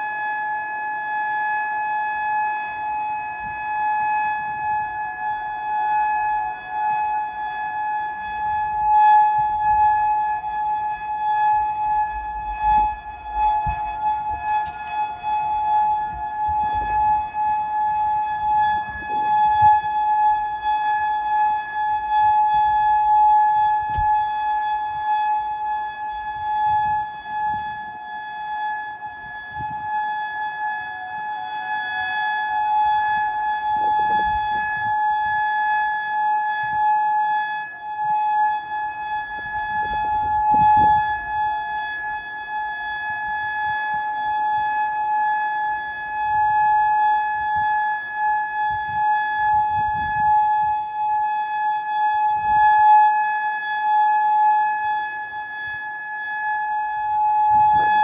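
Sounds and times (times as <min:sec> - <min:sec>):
outdoor warning siren steady tone: 0:00.0 - 0:58.0.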